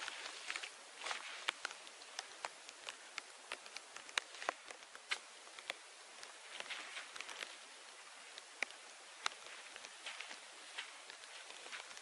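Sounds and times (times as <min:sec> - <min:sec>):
raindrops ticking on leaves: 0:00.0 - 0:12.0
soft rain hiss: 0:00.0 - 0:12.0.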